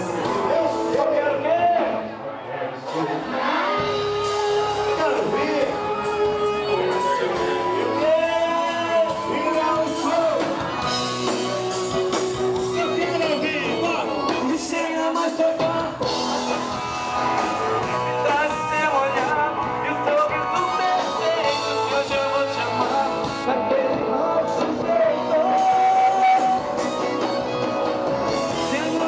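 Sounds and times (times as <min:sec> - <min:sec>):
man singing: 0:00.0 - 0:16.8, 0:17.6 - 0:29.0
live band playing: 0:00.0 - 0:29.0.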